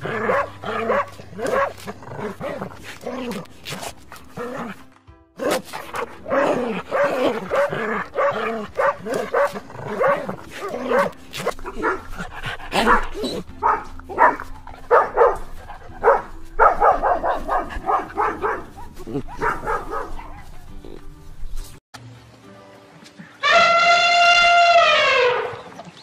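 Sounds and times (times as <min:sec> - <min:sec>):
dogs barking and yipping: 0:00.0 - 0:21.8
background music: 0:00.0 - 0:25.7.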